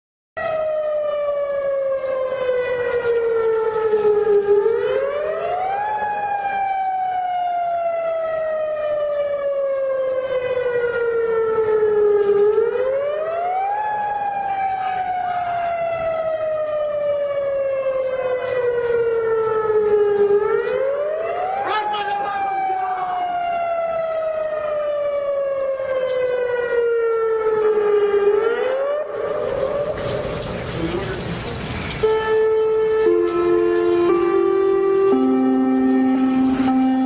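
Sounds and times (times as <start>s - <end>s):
warning siren wailing: 0.4s - 37.0s.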